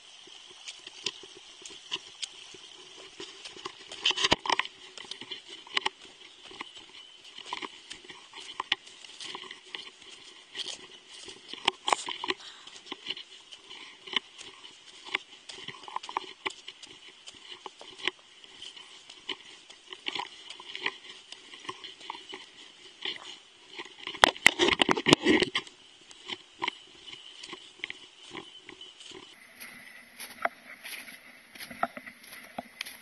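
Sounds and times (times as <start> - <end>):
footsteps crunching on trail: 0.0 - 33.0.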